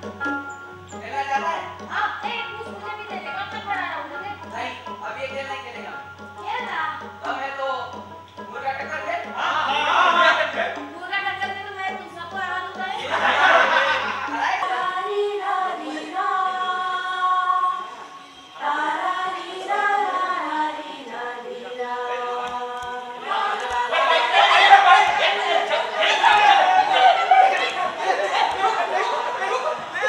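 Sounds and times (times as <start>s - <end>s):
group singing without instruments: 0.0s - 30.0s.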